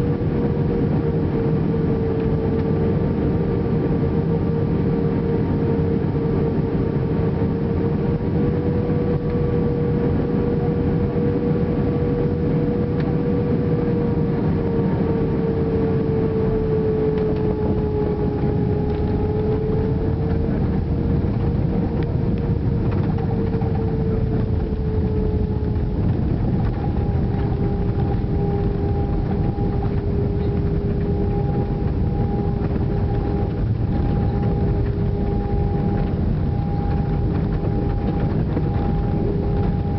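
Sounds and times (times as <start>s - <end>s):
higher engine tone: 0.0s - 39.9s
jet engine rumble: 0.0s - 39.9s.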